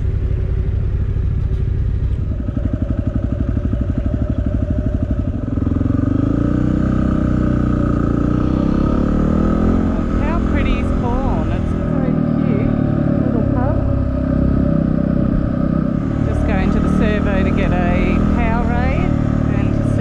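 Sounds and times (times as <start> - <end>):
motorcycle engine while riding: 0.0 - 20.0.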